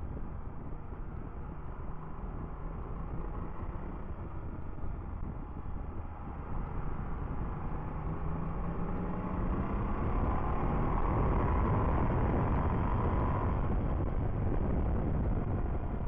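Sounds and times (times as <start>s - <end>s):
motorcycle engine whine: 0.0s - 16.0s
road rumble: 0.0s - 16.0s.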